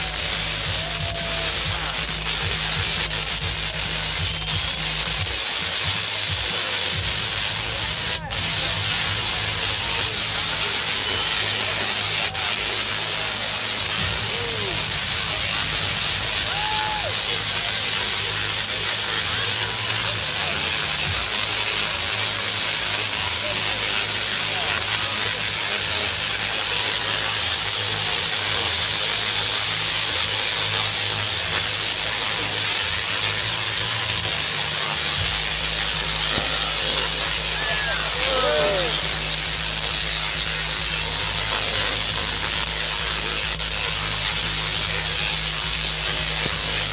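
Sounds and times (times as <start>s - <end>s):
tesla coil arcs crackling: 0.0s - 46.9s.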